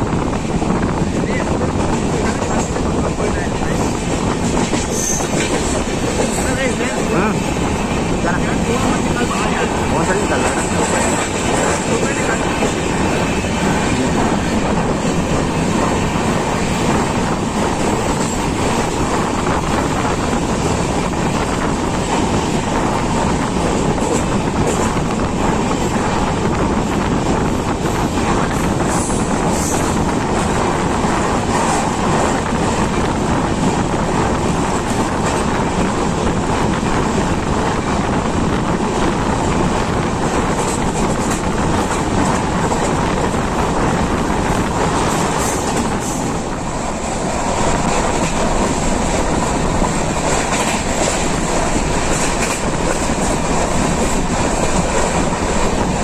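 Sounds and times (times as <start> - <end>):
train running at speed: 0.0 - 56.0.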